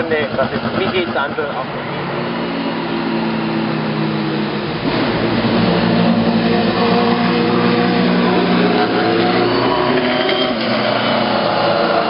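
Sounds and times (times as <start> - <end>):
racing car engine running hard: 0.0 - 12.0.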